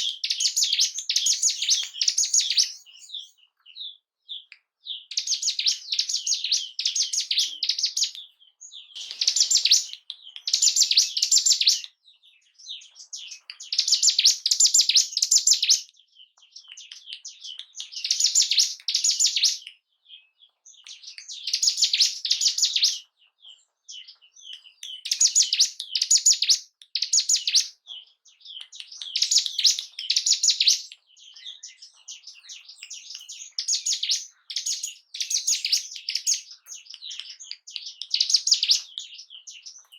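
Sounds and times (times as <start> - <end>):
bird singing high chattering phrases: 0.0 - 39.9.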